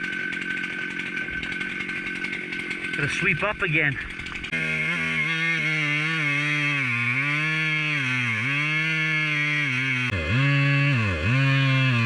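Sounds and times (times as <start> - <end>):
chainsaw cutting at high revs: 0.0 - 12.0.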